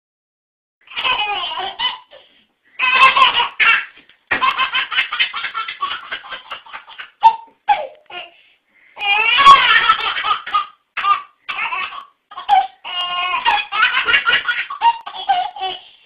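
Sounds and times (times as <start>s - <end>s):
baby belly-laughing: 0.9s - 8.3s, 9.0s - 15.9s.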